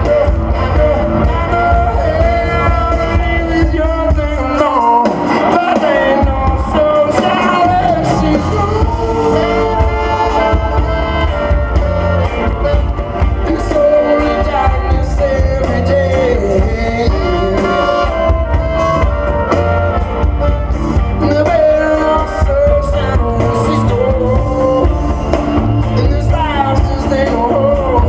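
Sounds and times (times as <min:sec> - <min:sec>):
electric guitar: 0:00.0 - 0:28.0
live blues-rock band: 0:00.0 - 0:28.0.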